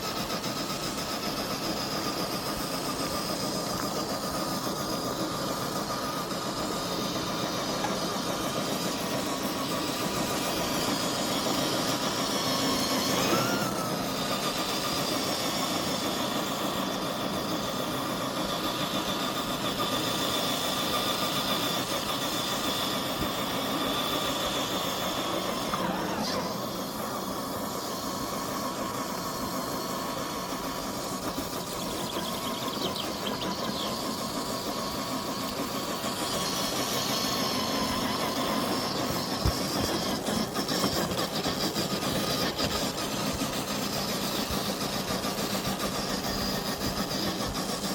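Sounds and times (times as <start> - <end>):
electric motor whining: 0.0 - 47.9.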